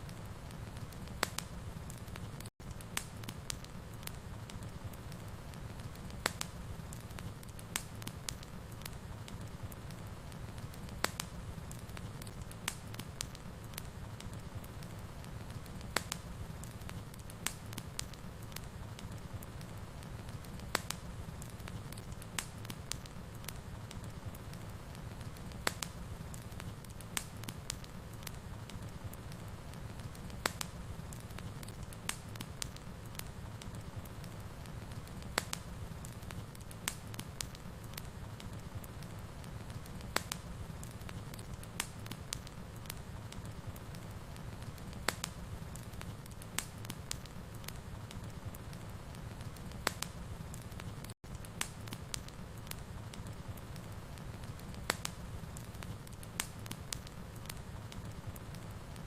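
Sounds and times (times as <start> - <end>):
fire crackling in a fireplace: 0.0 - 59.0.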